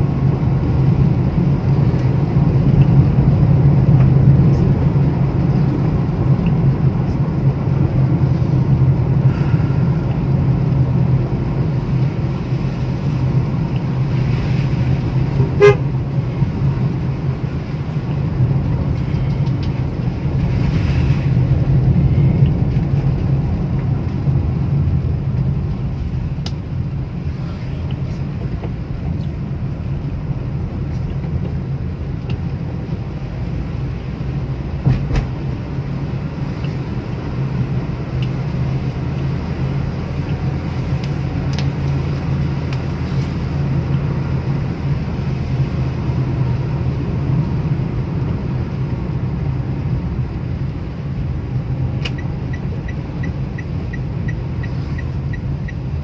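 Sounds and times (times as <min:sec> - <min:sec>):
car engine and tyres on wet road: 0:00.0 - 0:56.0.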